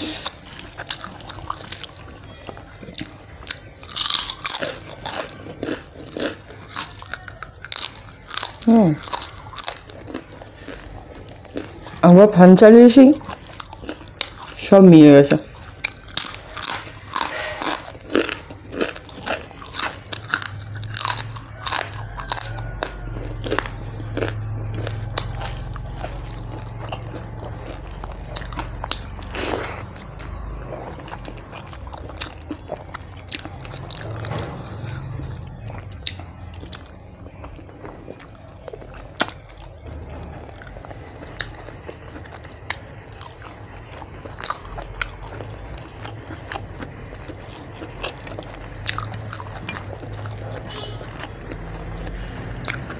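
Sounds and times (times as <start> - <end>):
chewing food: 0.0 - 52.9
crunching fried papad: 0.0 - 52.9.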